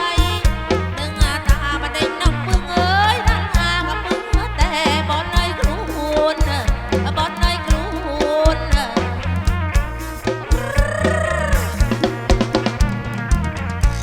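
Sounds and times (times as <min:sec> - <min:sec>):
driving drum beat: 0:00.0 - 0:14.0
folk music through loudspeakers: 0:00.0 - 0:14.0.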